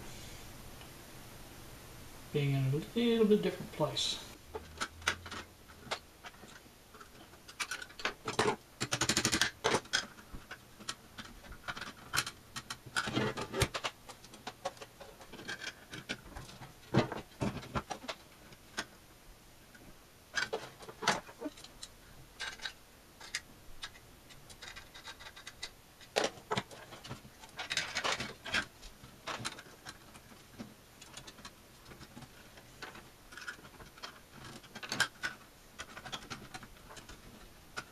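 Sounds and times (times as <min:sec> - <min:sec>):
metal parts and hand tools clicking: 0:04.5 - 0:18.9, 0:20.4 - 0:37.9.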